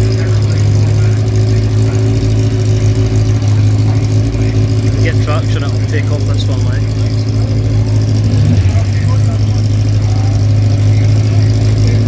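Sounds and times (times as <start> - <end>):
racing car engine idling: 0.0 - 12.0.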